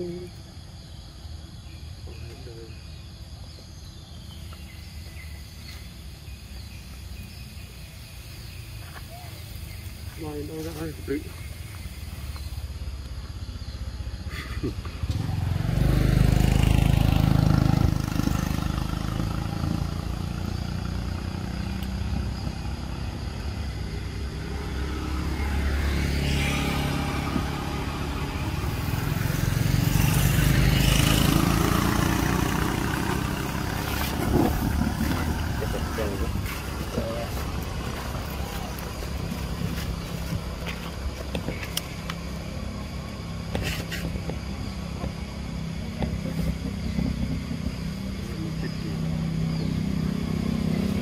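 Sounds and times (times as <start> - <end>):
vehicles passing on road: 0.0 - 51.0.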